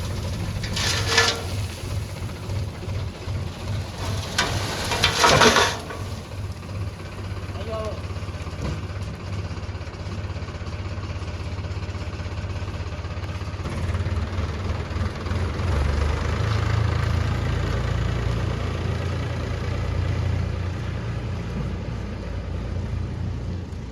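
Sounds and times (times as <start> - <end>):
diesel engine running: 0.0 - 21.6.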